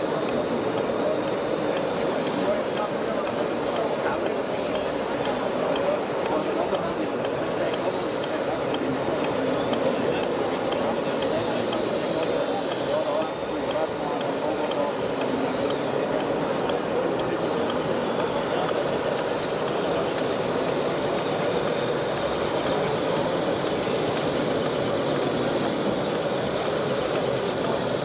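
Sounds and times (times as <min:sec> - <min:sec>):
radio-controlled trucks running: 0:00.0 - 0:28.0.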